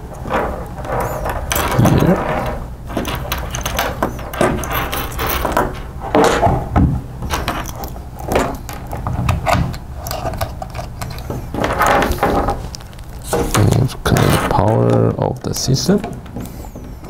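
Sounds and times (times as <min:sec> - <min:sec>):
cable rattles: 0:00.0 - 0:17.0.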